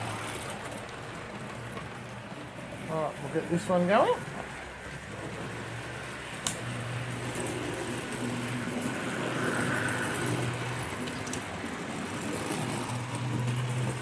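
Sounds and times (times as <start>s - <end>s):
model train motor humming: 0.0s - 14.0s.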